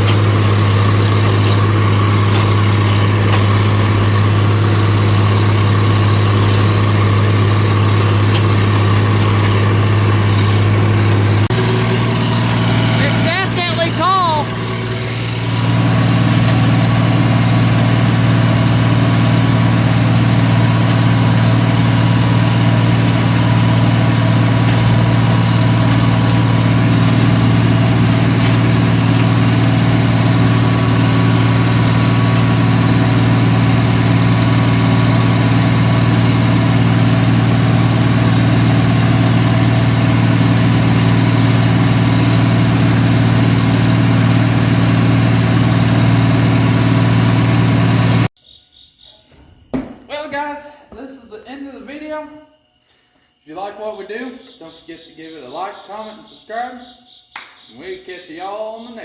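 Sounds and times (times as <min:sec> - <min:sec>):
tractor diesel engine running: 0:00.0 - 0:48.3.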